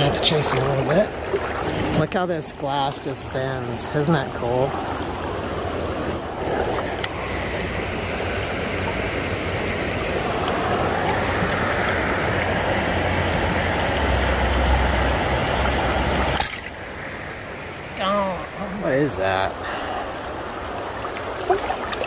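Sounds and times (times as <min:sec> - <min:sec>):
creek water rushing and splashing: 0:00.0 - 0:22.0.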